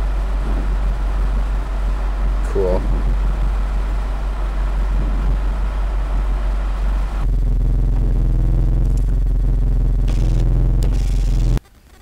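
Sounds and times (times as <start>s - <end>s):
engine drone: 0.0s - 11.7s
car cabin rumble with hiss: 0.0s - 12.0s.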